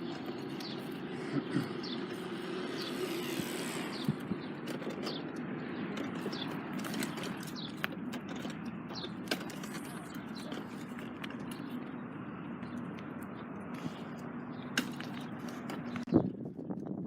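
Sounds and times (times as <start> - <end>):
low street rumble: 0.0 - 17.0.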